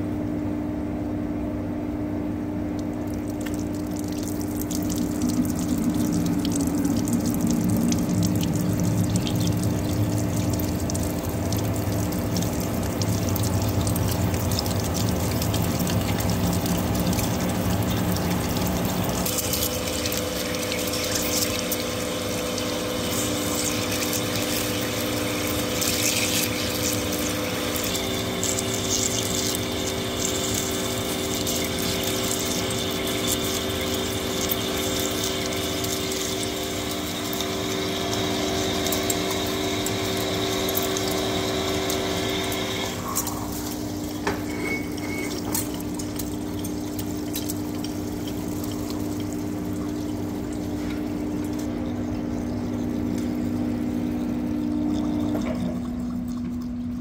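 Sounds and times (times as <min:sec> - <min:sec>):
coolant splashing: 0:02.5 - 0:57.0.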